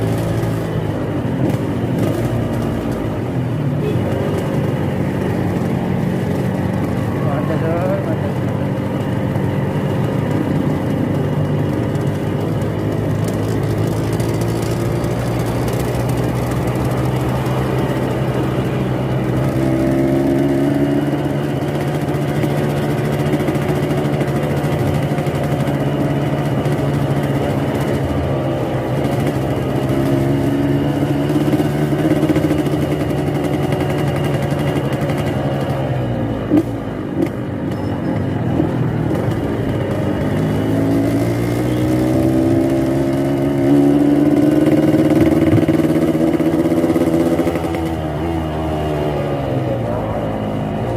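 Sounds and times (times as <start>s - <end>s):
motorcycle engine growling: 0.0s - 50.9s.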